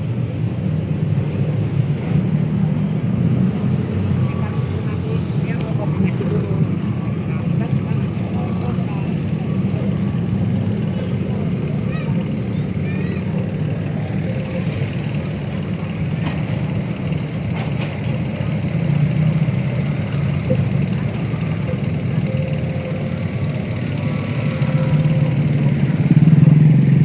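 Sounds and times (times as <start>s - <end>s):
traffic engine rumble: 0.0s - 27.0s.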